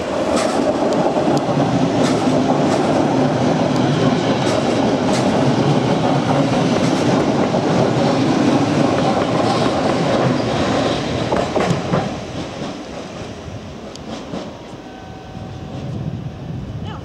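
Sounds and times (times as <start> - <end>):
electric train running past: 0.0 - 16.9
train wheels clacking over rail joints: 0.1 - 14.6.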